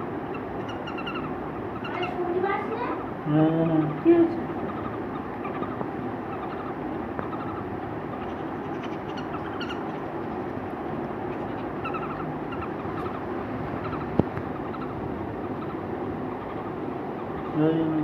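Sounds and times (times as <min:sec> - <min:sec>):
baby birds chirping: 0:00.0 - 0:18.0
low background rumble: 0:00.0 - 0:18.0.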